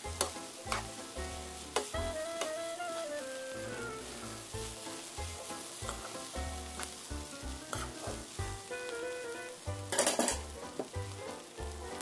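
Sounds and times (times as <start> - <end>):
noodles sizzling in a pan: 0.0 - 12.0
soft background music: 0.0 - 12.0.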